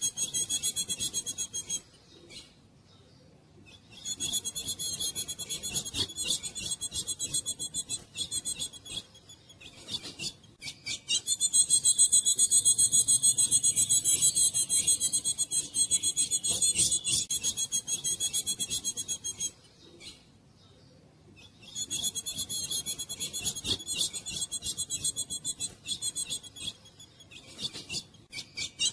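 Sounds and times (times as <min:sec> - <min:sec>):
bird rasping chatter: 0:00.0 - 0:01.9, 0:03.9 - 0:19.6, 0:21.4 - 0:28.9.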